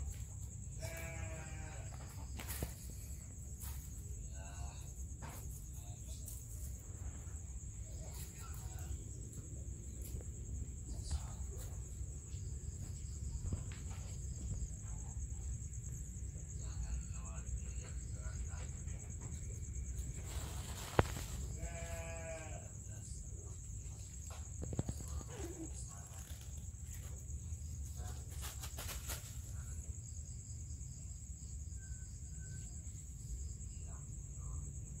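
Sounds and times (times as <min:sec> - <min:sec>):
cats scuffling on dirt floor: 0:00.0 - 0:31.3
crickets trilling: 0:00.0 - 0:35.0.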